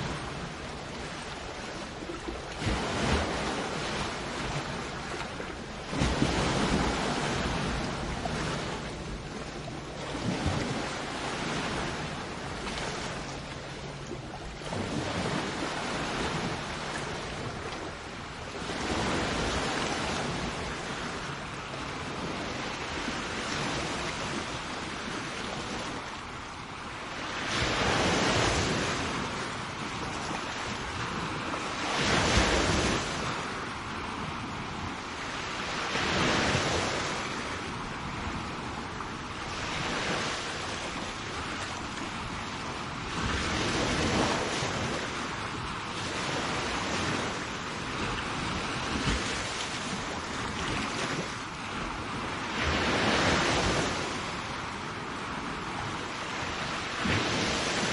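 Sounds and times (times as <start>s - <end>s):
sea waves breaking on shore: 0.0s - 57.9s
wind on microphone: 0.0s - 57.9s.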